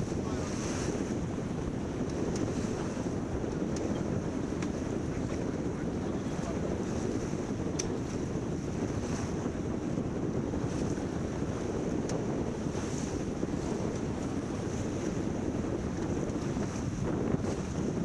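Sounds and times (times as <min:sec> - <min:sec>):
water rushing along hull: 0:00.0 - 0:18.0
wind buffeting microphone: 0:00.0 - 0:18.0.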